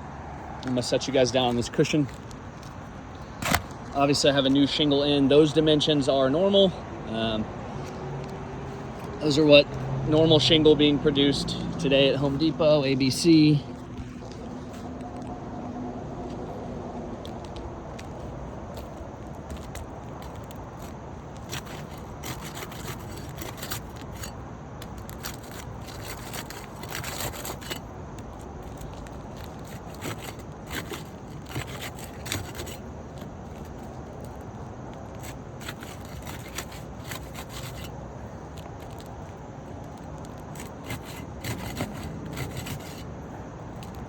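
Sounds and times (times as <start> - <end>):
roof shingle scraping and crackling: 0.4 - 44.0.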